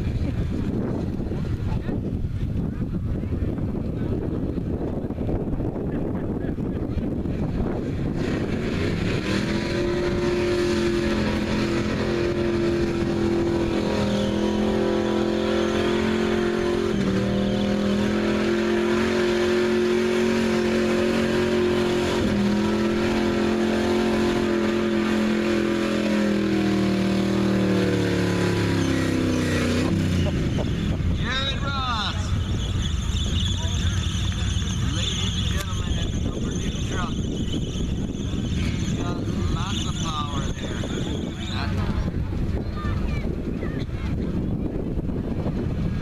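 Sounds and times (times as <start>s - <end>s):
truck engine revving hard: 3.9s - 46.0s.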